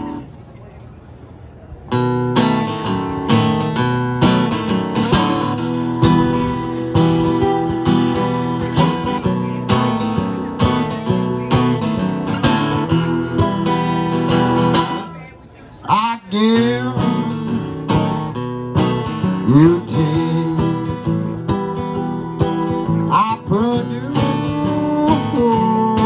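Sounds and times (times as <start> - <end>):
acoustic guitar strumming: 1.9 - 26.0.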